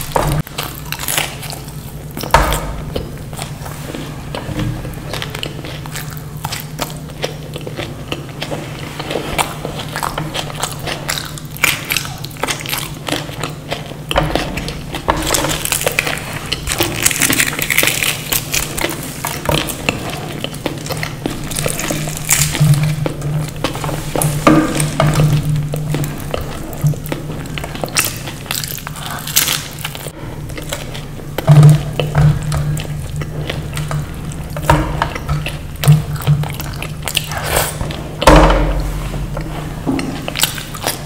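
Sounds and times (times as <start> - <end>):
chewing and biting: 0.0 - 41.0
steady low hum: 0.0 - 41.0.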